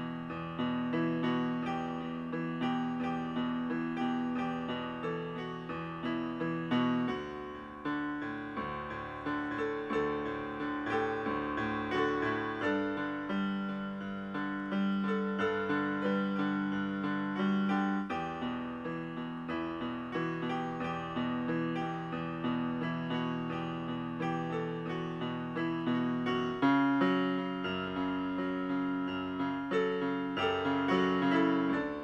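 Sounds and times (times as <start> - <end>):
solo piano melody: 0.0 - 32.0.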